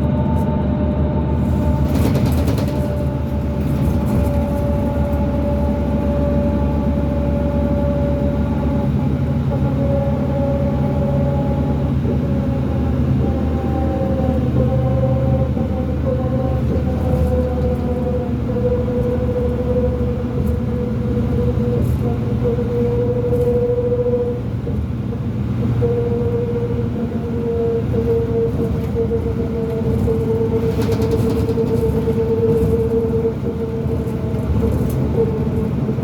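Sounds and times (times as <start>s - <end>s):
bus diesel engine rumble: 0.0s - 36.0s.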